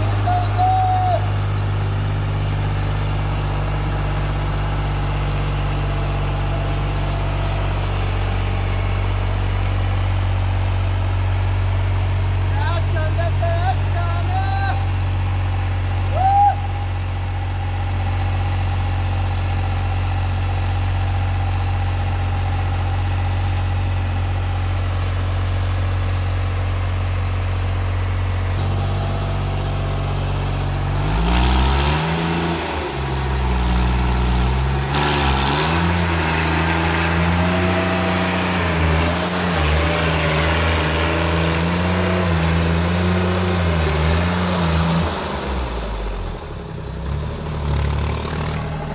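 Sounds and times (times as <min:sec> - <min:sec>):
tractor engine idling and revving: 0:00.0 - 0:48.9.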